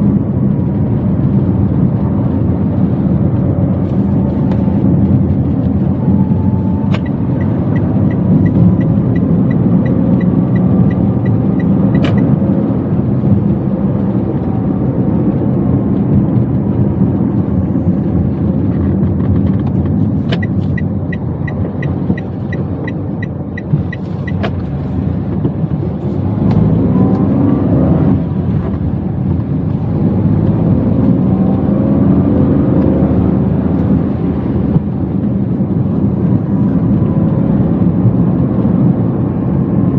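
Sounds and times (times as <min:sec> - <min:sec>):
car engine and tyre rumble: 0:00.0 - 0:39.9
turn signal ticking: 0:00.1 - 0:39.9.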